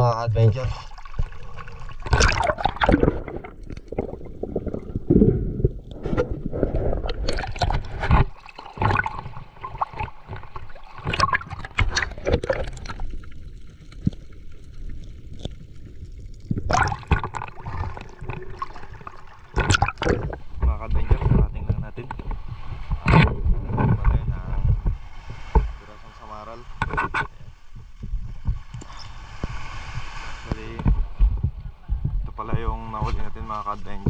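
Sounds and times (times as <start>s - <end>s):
underwater bubbles: 0.3s - 34.0s
sea water splashing and gurgling: 0.4s - 34.0s.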